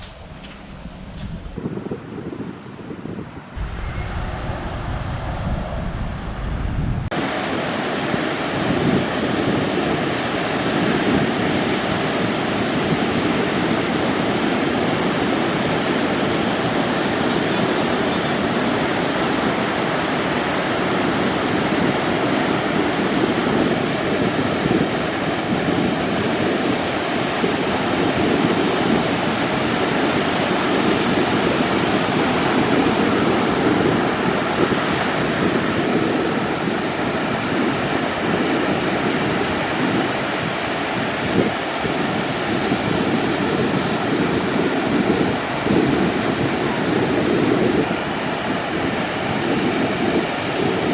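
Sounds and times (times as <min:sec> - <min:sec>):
ocean surf breaking: 0:00.0 - 0:50.9
wind on microphone: 0:00.0 - 0:50.9.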